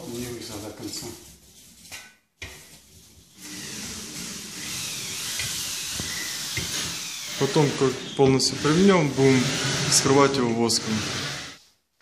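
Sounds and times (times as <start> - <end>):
trowel scraping plaster: 0.0 - 11.6.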